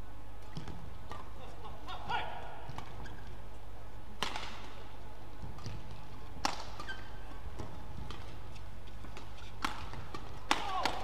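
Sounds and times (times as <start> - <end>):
rackets hitting shuttlecock: 0.4 - 1.4, 2.1 - 3.4, 4.1 - 11.0.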